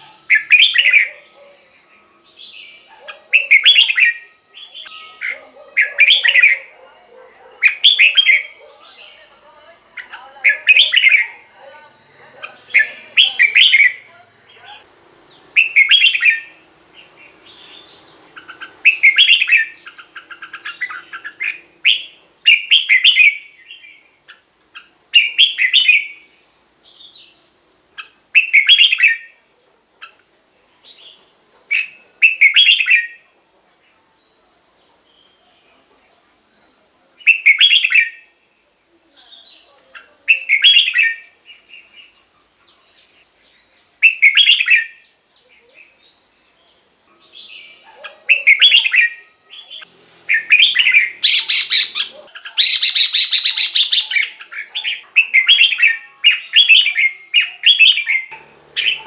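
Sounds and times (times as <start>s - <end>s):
bulbul singing warbled phrases: 0.0s - 29.4s, 30.0s - 34.4s, 35.0s - 59.0s.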